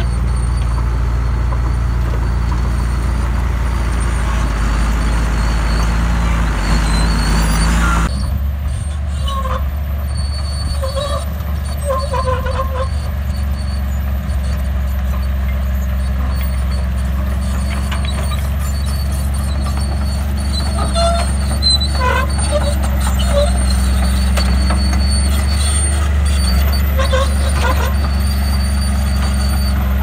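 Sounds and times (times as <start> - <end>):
bulldozer diesel engine drone: 0.0 - 30.0
steel tracks squeaking and clinking: 0.0 - 30.0.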